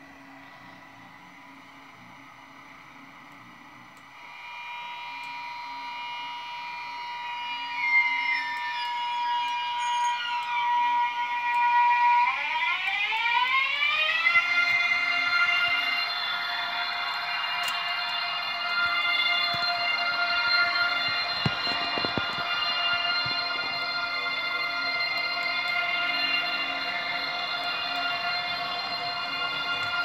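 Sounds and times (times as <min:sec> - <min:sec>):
electric train drive whine: 0:00.0 - 0:30.0.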